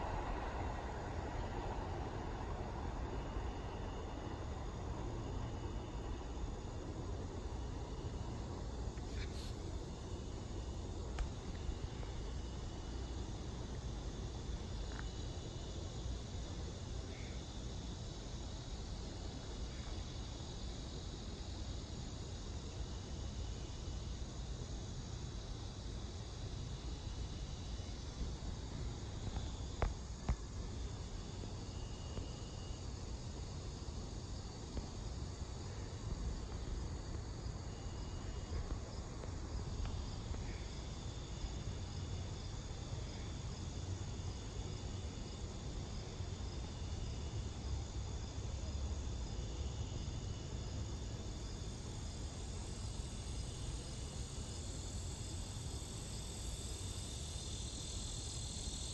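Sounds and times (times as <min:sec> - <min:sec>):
low steady rumble: 0:00.0 - 0:57.0
insects chirping: 0:00.0 - 0:58.9.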